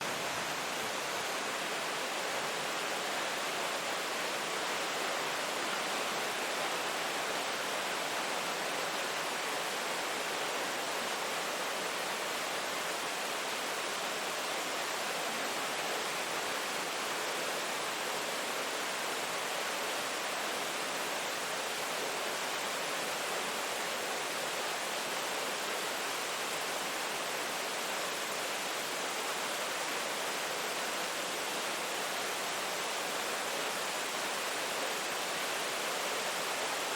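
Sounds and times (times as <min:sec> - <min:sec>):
steady rain: 0:00.0 - 0:36.9.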